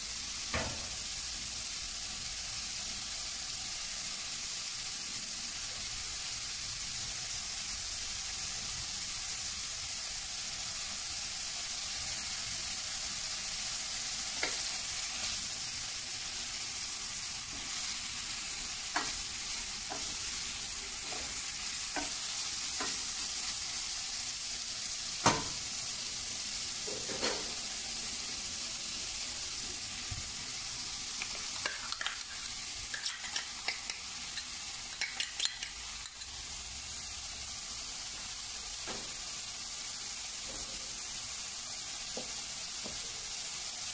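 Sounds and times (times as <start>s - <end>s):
vegetables sizzling in a pan: 0.0s - 43.9s.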